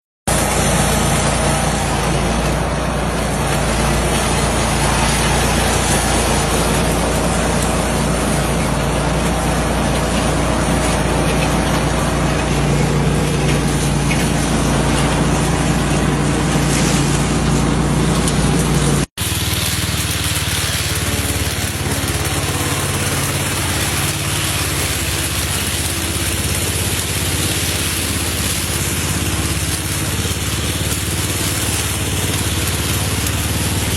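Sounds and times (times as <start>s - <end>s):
lawn mower engine running: 0.2s - 33.9s.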